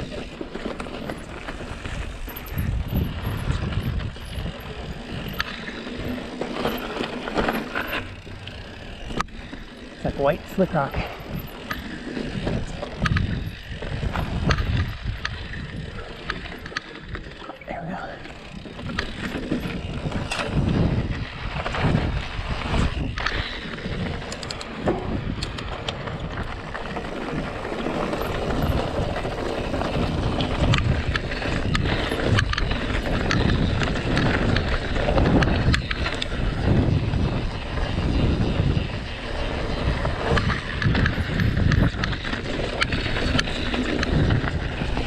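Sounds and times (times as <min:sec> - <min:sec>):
bike clicks and rattles: 0:00.0 - 0:45.0
tyres rolling over dirt and rock: 0:00.0 - 0:45.0
wind rumbling on microphone: 0:00.0 - 0:45.0.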